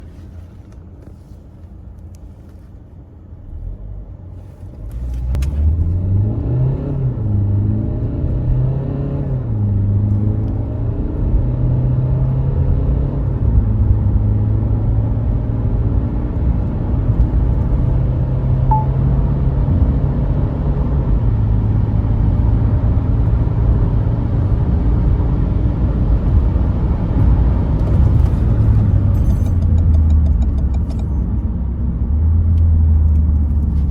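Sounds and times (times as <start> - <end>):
diesel engine idling and accelerating: 0.0 - 33.9
road rumble: 0.0 - 33.9.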